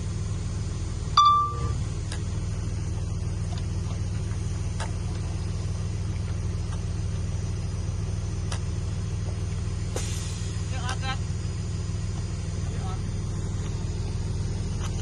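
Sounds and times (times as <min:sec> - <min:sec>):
heavy diesel machinery droning: 0:00.0 - 0:15.0.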